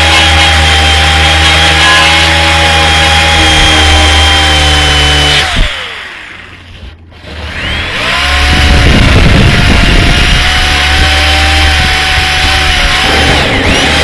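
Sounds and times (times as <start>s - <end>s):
grinder stripping paint off metal: 0.0s - 14.0s.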